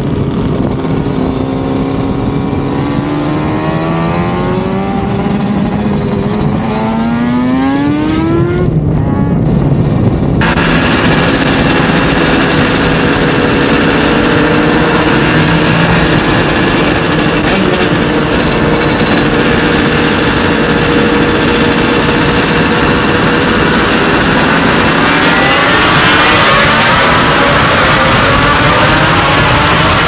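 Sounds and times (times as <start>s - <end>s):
two-stroke motorcycle engines: 0.0s - 30.0s
wind rush: 0.0s - 30.0s.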